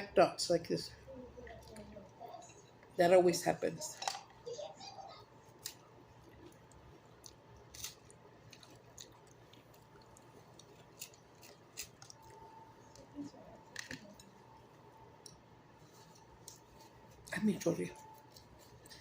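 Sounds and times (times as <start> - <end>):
faint chewing: 1.0 - 3.0, 4.0 - 19.0.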